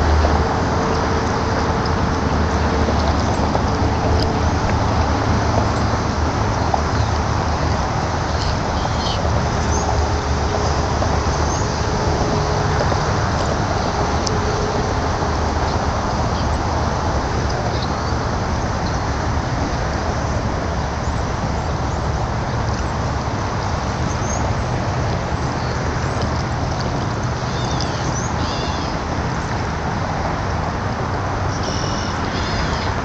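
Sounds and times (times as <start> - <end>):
steady rumbling background noise: 0.0 - 33.0.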